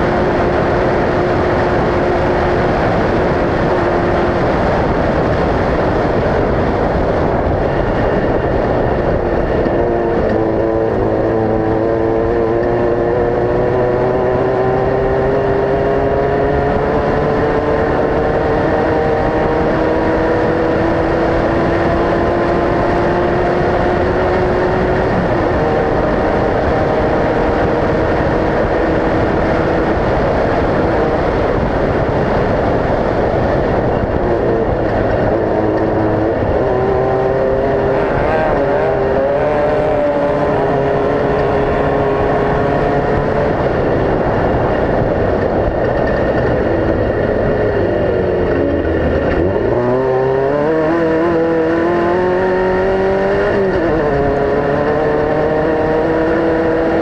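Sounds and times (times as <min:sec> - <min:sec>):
race vehicle engines running hard: 0:00.0 - 0:57.0.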